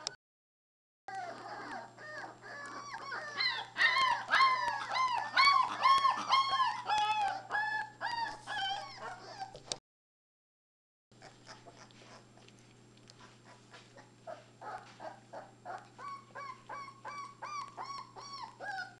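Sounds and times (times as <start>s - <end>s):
puppies squeaking and whining: 1.1s - 9.8s, 11.2s - 19.0s.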